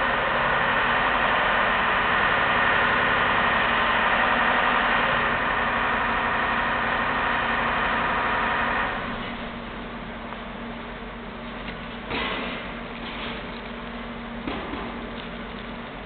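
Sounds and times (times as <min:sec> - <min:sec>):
machine droning: 0:00.0 - 0:16.0.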